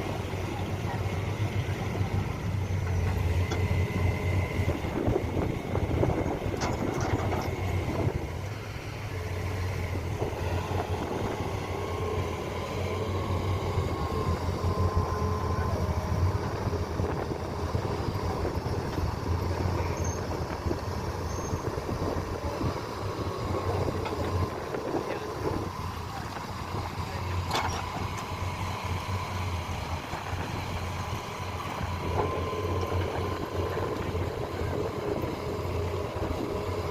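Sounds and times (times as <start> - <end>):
heavy diesel machinery running: 0.0 - 36.9.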